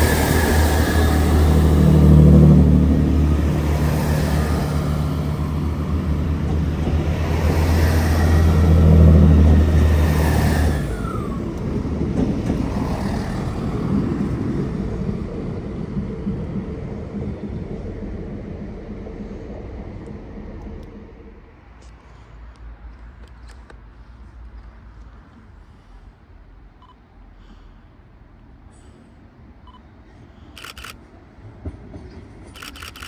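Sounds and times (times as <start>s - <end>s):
diesel train engines droning: 0.0s - 33.0s.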